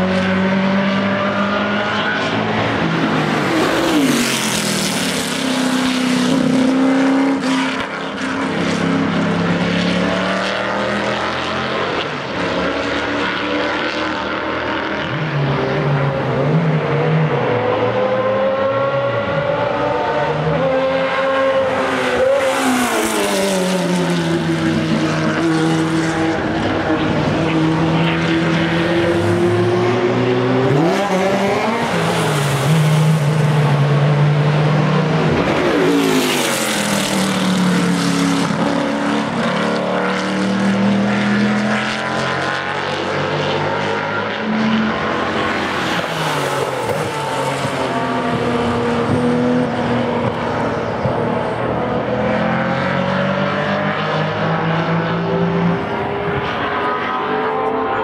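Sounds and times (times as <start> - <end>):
racing cars passing at speed: 0.0 - 58.0.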